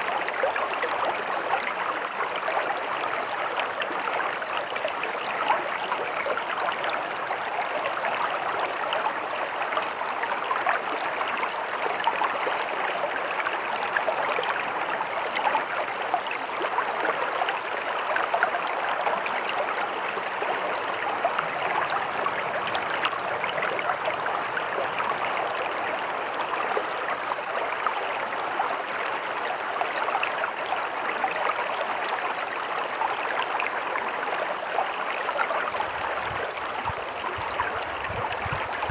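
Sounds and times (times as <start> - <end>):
stream water over stones: 0.0 - 38.9.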